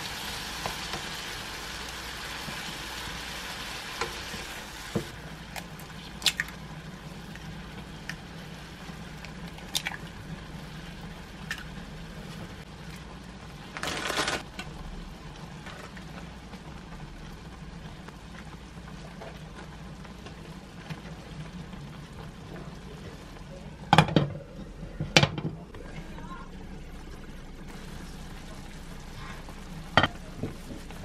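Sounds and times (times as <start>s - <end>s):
sauce simmering in a pan: 0.0s - 13.8s, 14.4s - 25.0s, 25.7s - 31.0s.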